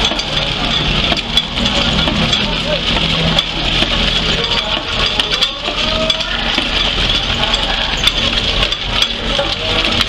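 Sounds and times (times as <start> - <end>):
beans rattling: 0.0 - 10.0
machine humming: 0.0 - 10.0.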